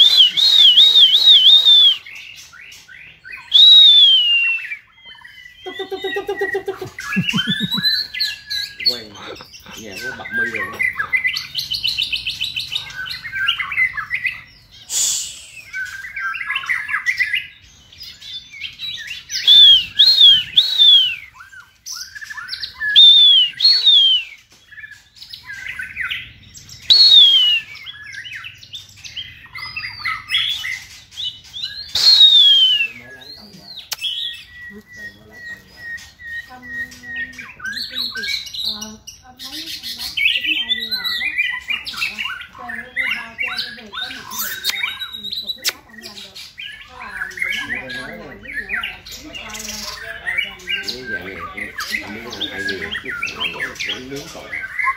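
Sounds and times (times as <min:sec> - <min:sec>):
birds singing warbles and chatter: 0:00.0 - 0:54.9
loud whistled bird notes: 0:00.0 - 0:54.9.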